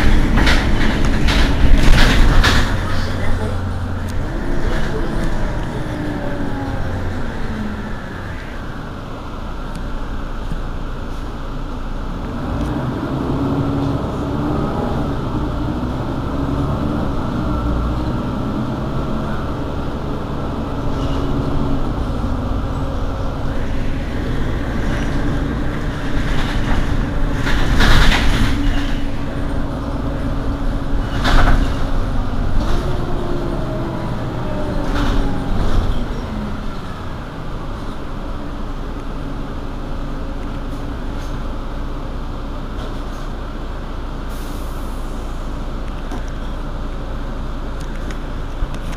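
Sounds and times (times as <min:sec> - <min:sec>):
bus engine idling: 0:00.0 - 0:48.9.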